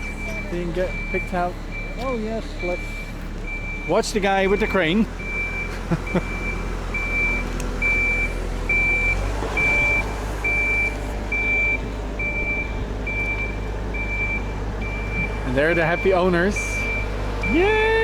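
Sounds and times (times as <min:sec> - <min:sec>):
crane diesel engine running: 0:00.0 - 0:18.0
high warning beeps: 0:00.0 - 0:18.0.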